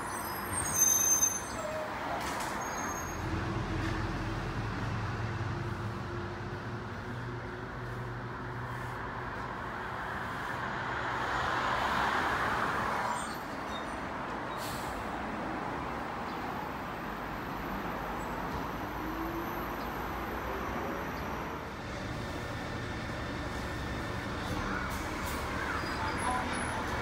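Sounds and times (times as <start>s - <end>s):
passing vehicles rushing: 0.0s - 27.0s.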